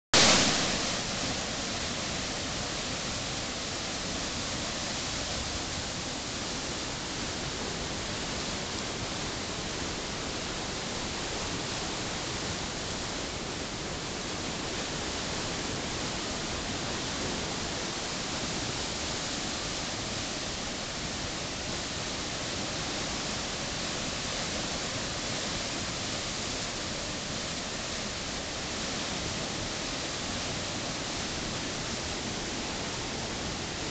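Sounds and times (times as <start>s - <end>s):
water rushing over rapids: 0.2s - 33.9s.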